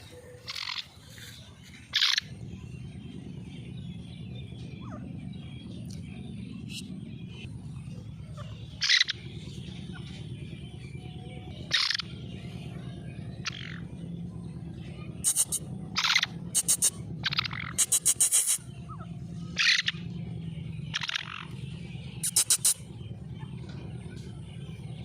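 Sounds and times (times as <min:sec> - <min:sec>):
faint bird chirps: 0:00.0 - 0:25.0
low background hum: 0:00.0 - 0:25.0.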